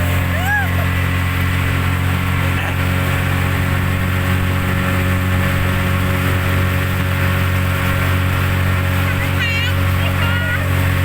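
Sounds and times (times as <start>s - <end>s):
constant rushing noise: 0.0s - 11.0s
speedboat engine running: 0.0s - 11.0s.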